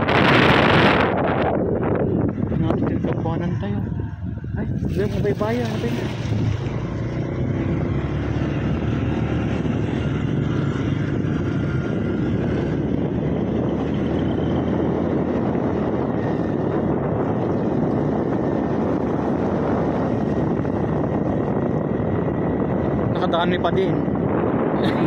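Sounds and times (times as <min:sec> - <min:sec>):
motorcycle engine running: 0:00.0 - 0:23.6
wind noise on microphone: 0:00.0 - 0:25.0.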